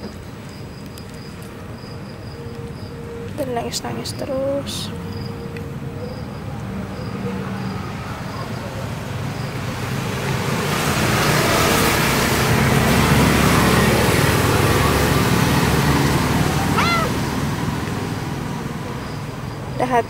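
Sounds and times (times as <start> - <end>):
vehicle passing: 3.7 - 20.0.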